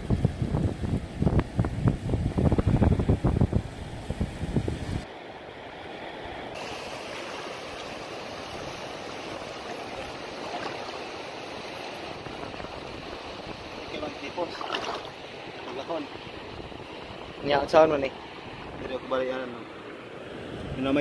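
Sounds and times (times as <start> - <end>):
wind buffeting microphone: 0.0 - 5.1, 8.1 - 19.2, 19.8 - 21.0
shallow surf: 0.0 - 21.0.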